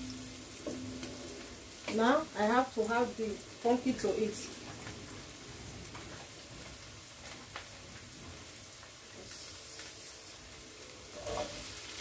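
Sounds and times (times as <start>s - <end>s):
onions sizzling in frying pan: 0.0s - 12.0s.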